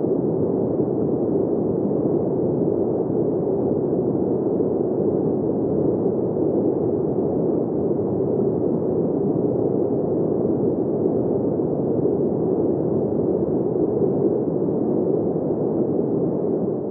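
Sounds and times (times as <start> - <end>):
muffled wind rushing: 0.0 - 16.9.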